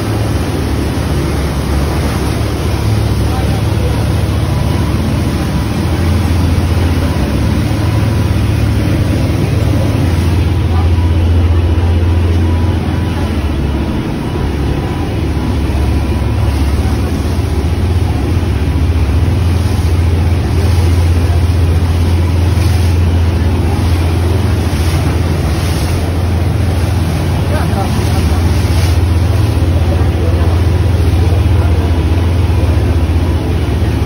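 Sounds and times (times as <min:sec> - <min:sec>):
boat engine droning: 0:00.0 - 0:34.0
wind and water rushing: 0:00.0 - 0:34.0.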